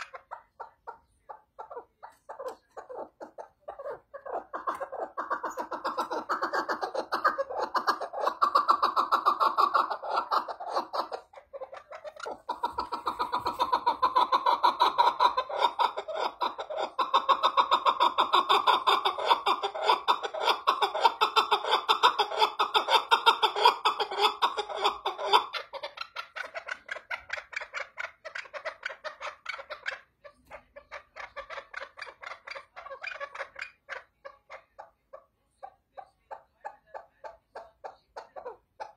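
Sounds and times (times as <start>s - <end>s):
partridge calling chuck notes: 0.0s - 38.9s.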